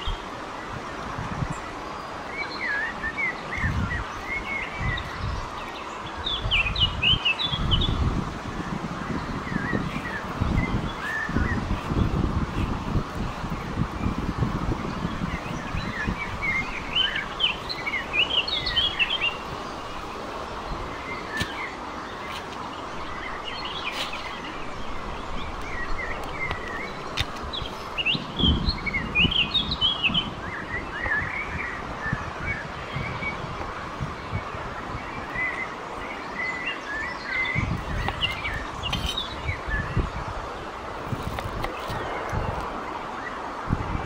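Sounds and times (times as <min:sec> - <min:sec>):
songbirds chirping: 0:00.0 - 0:44.0
wind rumble on microphone: 0:00.0 - 0:44.0.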